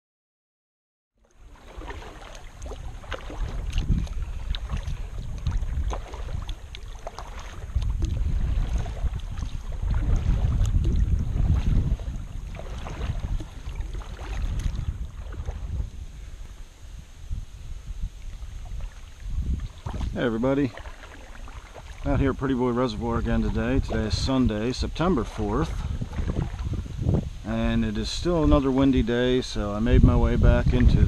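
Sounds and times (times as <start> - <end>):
water splashing and lapping: 1.2 - 31.0
wind buffeting microphone: 1.4 - 31.0.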